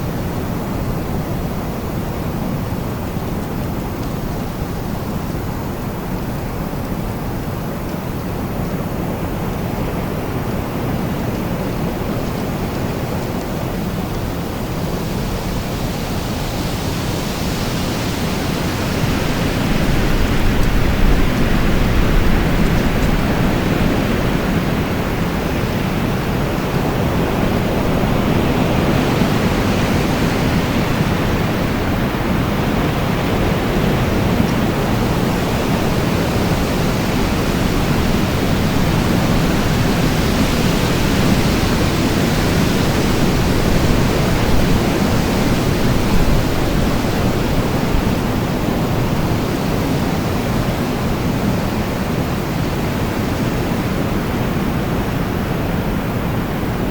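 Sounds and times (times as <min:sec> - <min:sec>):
steady wind rush: 0:00.0 - 0:56.9.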